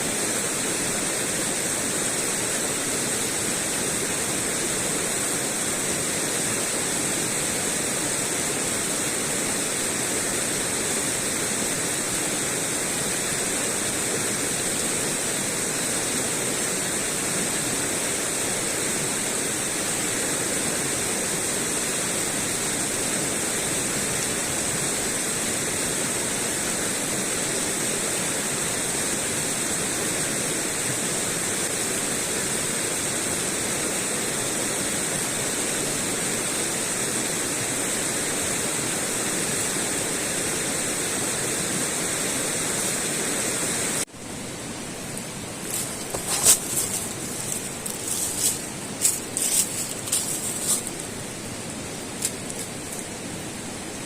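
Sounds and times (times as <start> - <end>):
steady rushing noise with hiss: 0.0 - 54.0.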